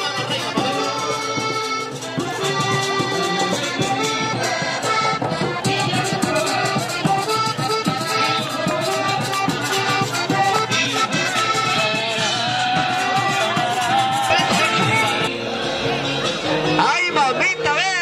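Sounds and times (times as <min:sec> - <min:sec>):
steady percussion beat: 0:00.0 - 0:15.3
accordion-led folk music: 0:00.0 - 0:18.0.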